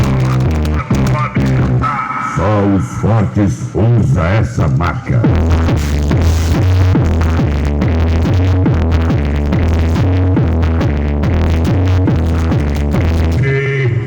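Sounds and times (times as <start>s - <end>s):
electronic dance music with bass: 0.0s - 14.0s.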